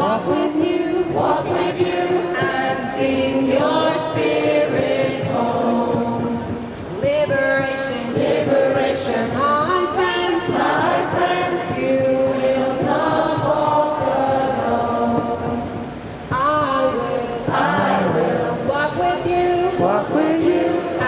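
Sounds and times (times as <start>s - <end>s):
group of voices singing: 0.0s - 21.0s.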